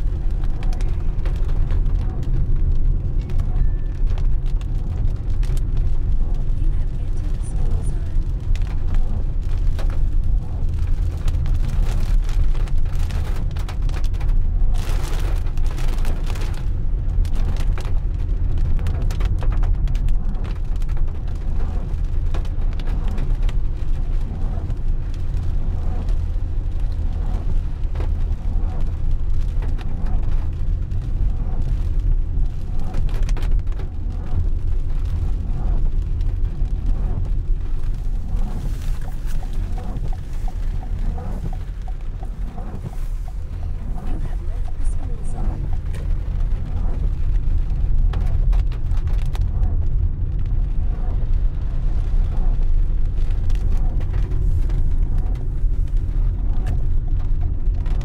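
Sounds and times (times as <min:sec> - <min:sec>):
car driving on wet road: 0:00.0 - 0:58.0.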